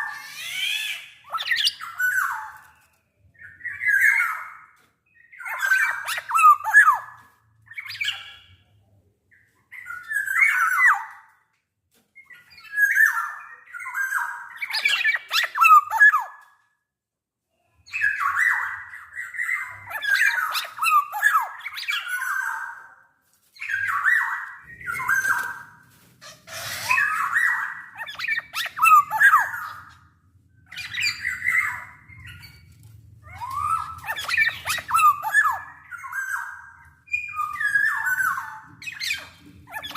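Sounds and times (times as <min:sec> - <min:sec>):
bird whistling and squawking: 0:00.0 - 0:08.4, 0:12.3 - 0:16.4, 0:17.9 - 0:22.9, 0:23.6 - 0:39.9.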